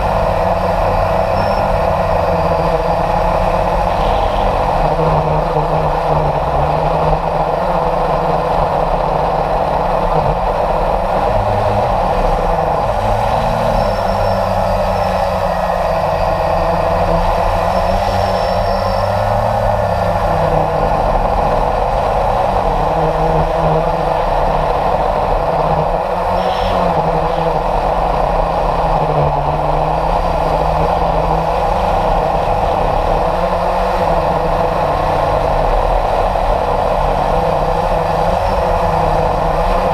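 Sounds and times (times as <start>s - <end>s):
model jet motor running: 0.0s - 39.9s.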